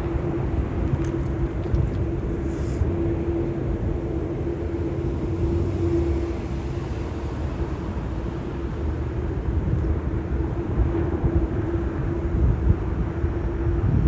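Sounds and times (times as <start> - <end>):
low rumble: 0.0 - 14.0
mid-pitched hum: 0.0 - 14.0.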